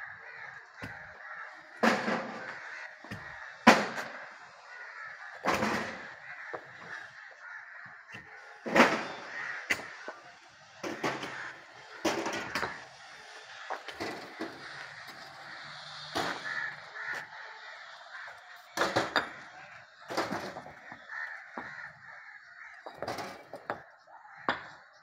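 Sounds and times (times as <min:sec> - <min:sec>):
crows cawing: 0:00.0 - 0:25.0.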